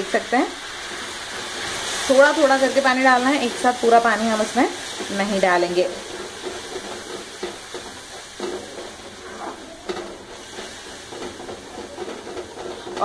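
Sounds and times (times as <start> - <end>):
sweet sizzling in a pan: 0.0 - 13.0
spatula scraping a pan: 0.6 - 13.0.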